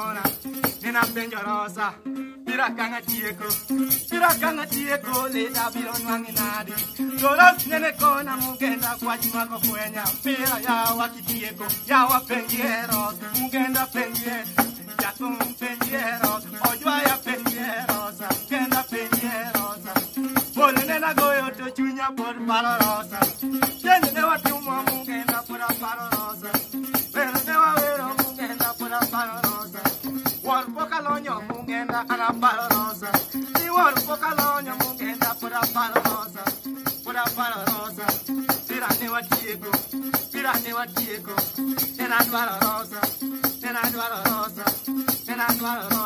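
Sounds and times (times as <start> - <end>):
metal jingling rattle: 0.0 - 1.4, 3.0 - 21.7, 22.7 - 46.0
man singing: 0.0 - 46.0.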